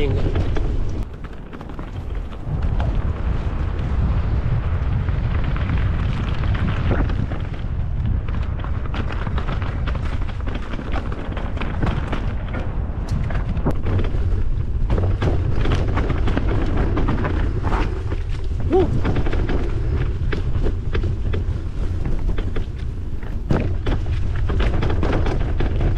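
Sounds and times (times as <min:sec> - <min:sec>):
bike rattling clicks: 0:00.0 - 0:25.9
wind rumble on microphone: 0:00.0 - 0:25.9.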